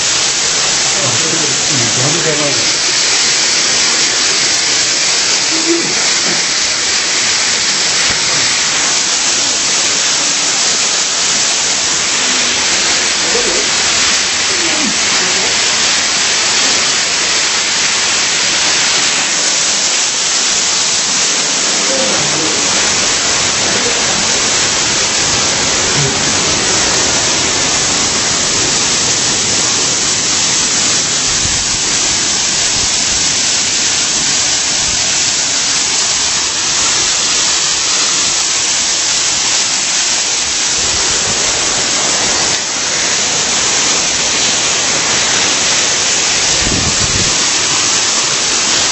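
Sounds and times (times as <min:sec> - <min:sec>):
waterfall pouring: 0:00.0 - 0:48.9.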